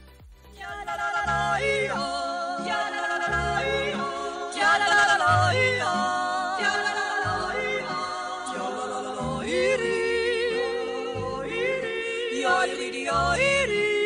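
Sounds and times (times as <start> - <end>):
music with singing voices: 0.0 - 14.0.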